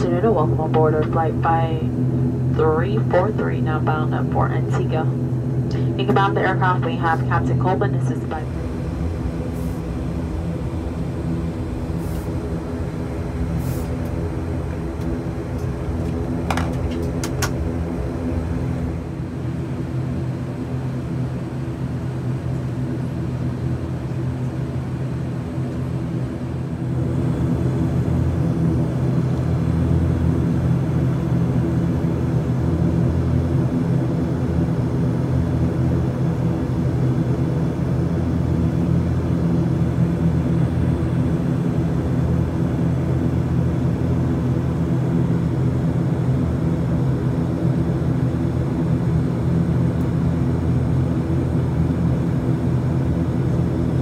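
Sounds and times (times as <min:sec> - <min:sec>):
turboprop cabin drone: 0:00.0 - 0:54.0.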